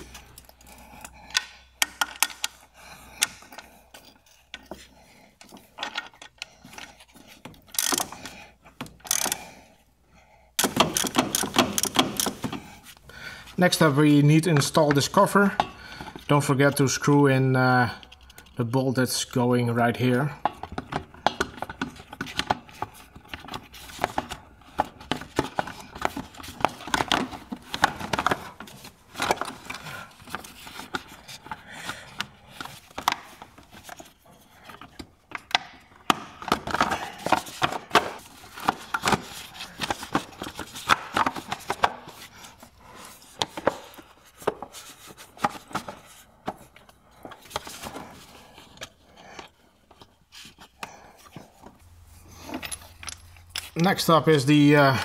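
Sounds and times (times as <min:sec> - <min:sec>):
tools clicking and scraping: 0:00.0 - 0:09.6, 0:10.6 - 0:13.0, 0:17.8 - 0:54.9.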